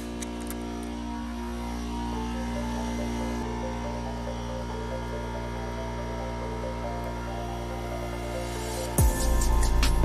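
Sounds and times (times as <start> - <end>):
air compressor humming: 0.0 - 10.0.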